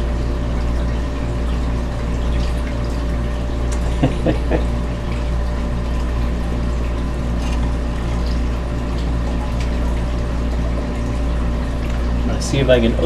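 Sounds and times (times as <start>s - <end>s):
aquarium pumps and filters humming: 0.0s - 13.0s.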